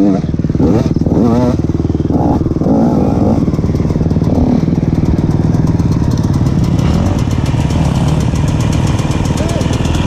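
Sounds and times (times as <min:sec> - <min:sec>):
dirt bike two-stroke engine running: 0:00.0 - 0:10.0.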